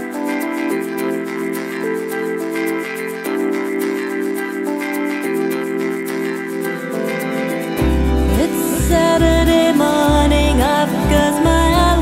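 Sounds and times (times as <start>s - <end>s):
held synth chords: 0.0s - 12.0s.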